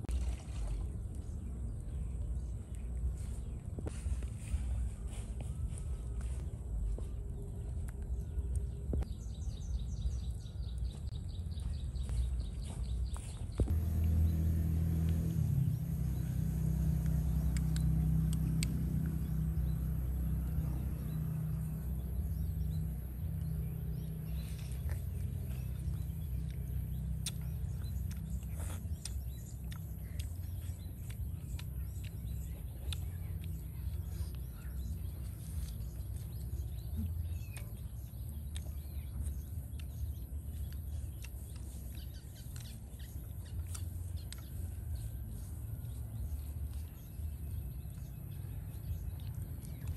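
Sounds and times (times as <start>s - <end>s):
birds chirping: 0.0s - 49.9s
steady low rumble: 0.0s - 49.9s.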